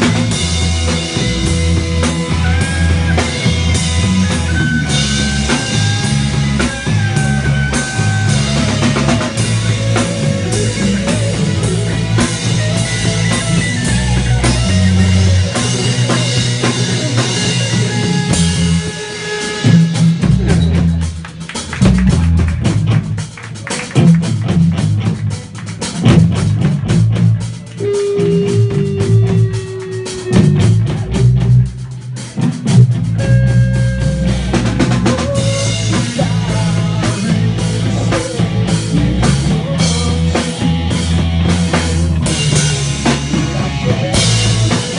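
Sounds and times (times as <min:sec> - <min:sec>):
held electric guitar notes: 0:00.0 - 0:25.4, 0:26.0 - 0:44.9
hard rock band playing live: 0:00.0 - 0:44.9.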